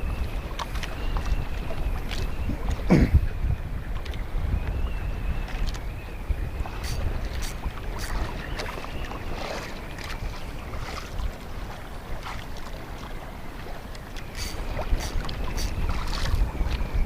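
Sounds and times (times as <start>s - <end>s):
choppy water splashing: 0.0s - 17.0s
wind buffeting microphone: 0.0s - 17.0s.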